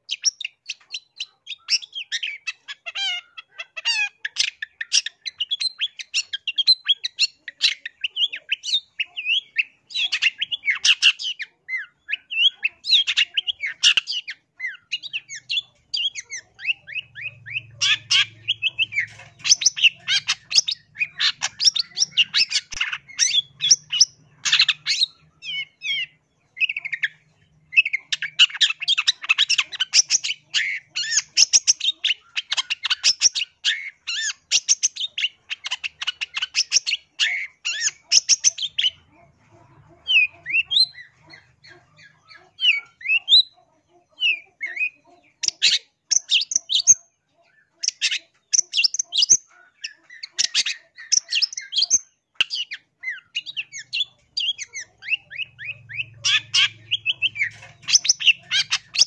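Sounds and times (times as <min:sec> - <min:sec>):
bird harsh chattering song: 0:00.0 - 0:59.0.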